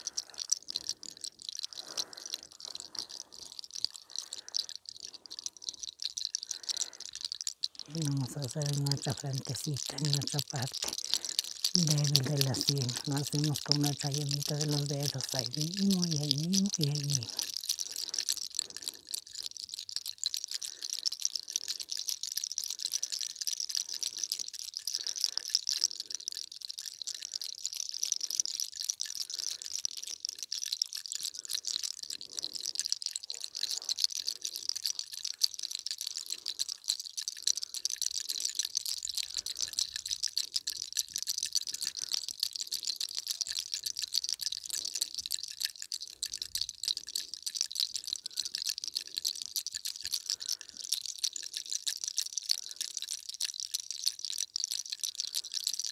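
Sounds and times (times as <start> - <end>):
hair crackling under fingers: 0.0 - 51.7.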